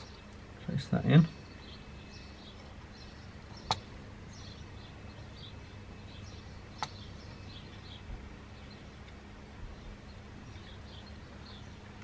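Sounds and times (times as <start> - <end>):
faint bird chirps: 0.0 - 12.0
low steady hum: 0.0 - 12.0.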